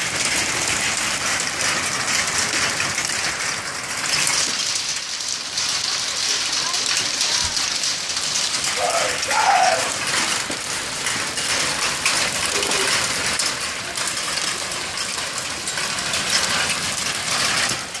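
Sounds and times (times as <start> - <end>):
hailstones falling hard: 0.0 - 18.0.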